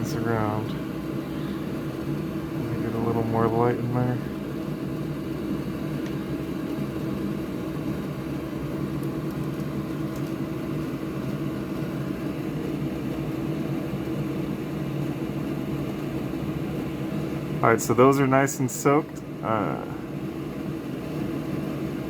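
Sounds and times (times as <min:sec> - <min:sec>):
fan motor humming: 0:00.0 - 0:22.0.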